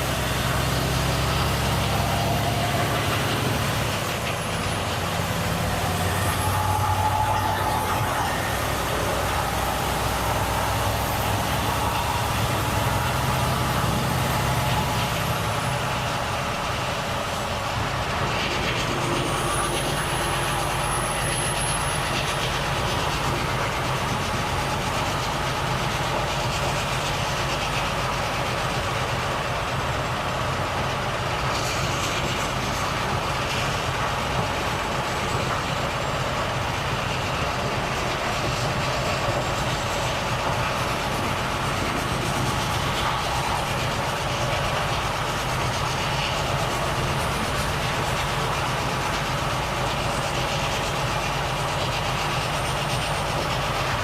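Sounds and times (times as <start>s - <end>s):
road and tyre noise: 0.0s - 54.0s
truck diesel engine running: 0.0s - 54.0s.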